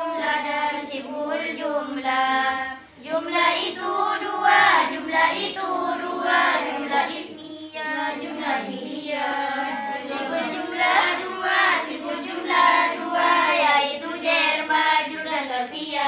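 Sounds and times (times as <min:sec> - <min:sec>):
girls chanting together: 0:00.0 - 0:16.0.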